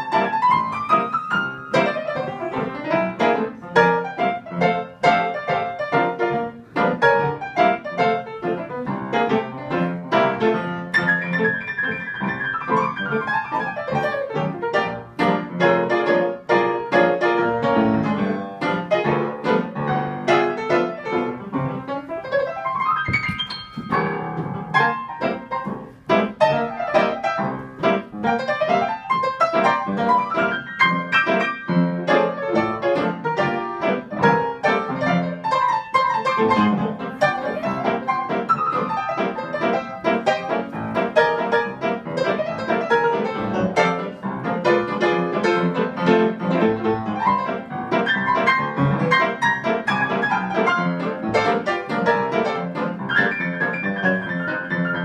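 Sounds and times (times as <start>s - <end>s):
live piano music: 0.0s - 55.0s.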